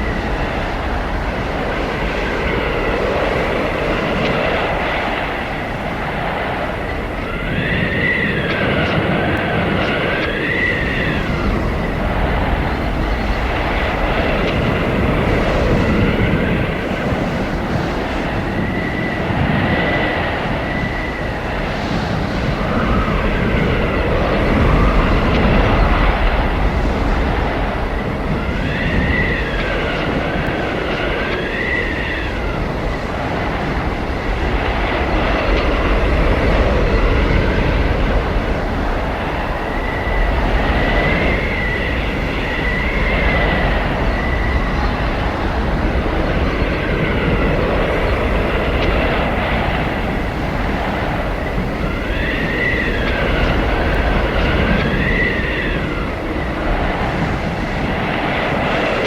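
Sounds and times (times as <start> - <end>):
blizzard wind roaring and howling: 0.0 - 59.0.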